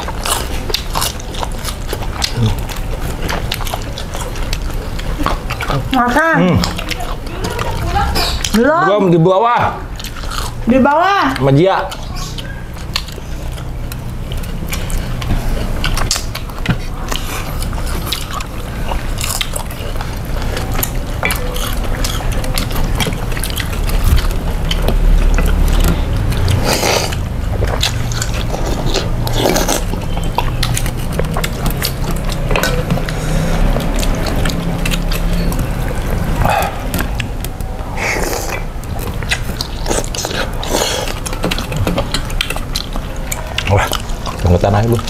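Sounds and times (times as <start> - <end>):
people chewing: 0.0 - 45.0.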